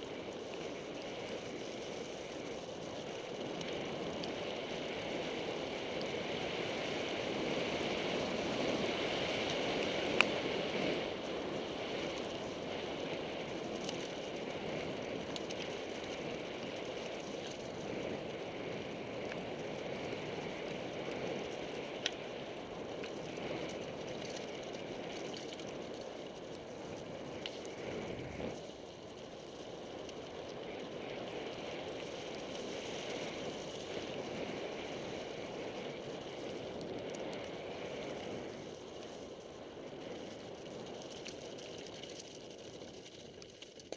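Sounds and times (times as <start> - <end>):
bike tyres rushing on wet trail: 0.0 - 43.9.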